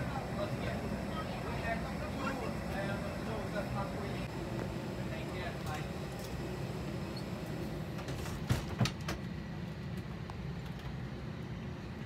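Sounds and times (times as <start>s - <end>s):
airliner cabin hum: 0.0s - 12.0s.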